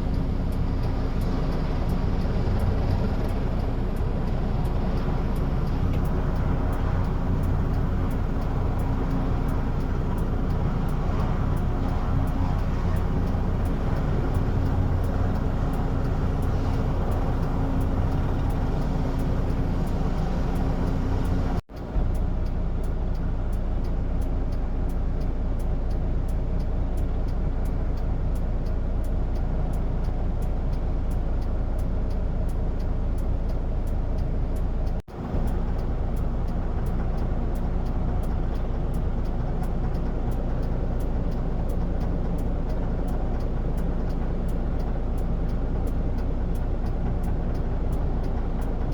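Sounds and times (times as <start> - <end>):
engine rumble with low hum: 0.0 - 48.9.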